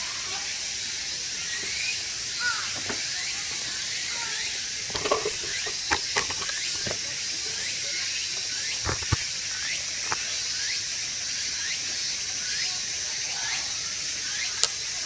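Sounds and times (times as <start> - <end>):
outdoor ambience hiss: 0.0 - 15.0.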